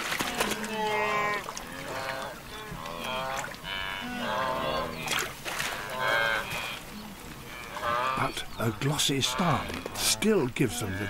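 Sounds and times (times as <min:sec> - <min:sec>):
wildebeest grunting calls: 0:00.3 - 0:11.0.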